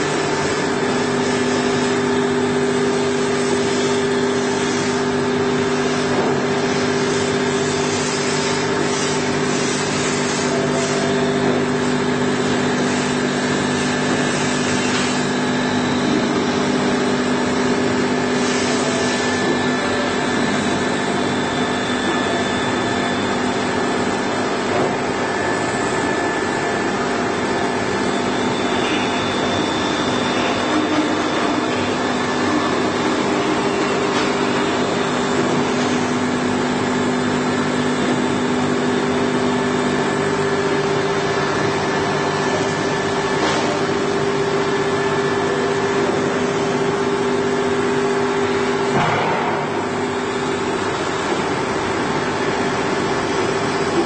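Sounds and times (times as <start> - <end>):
knife grinding machine running: 0.0 - 54.0.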